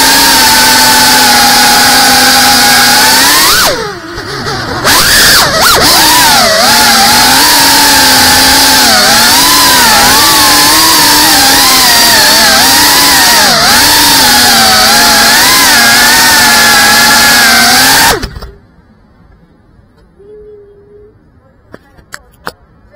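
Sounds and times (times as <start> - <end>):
drone motors whining: 0.0 - 18.7.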